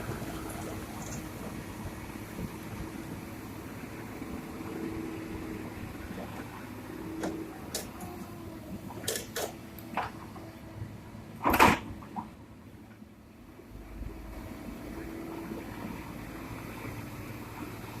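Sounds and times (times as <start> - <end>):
distant excavator engine running: 0.0 - 18.0.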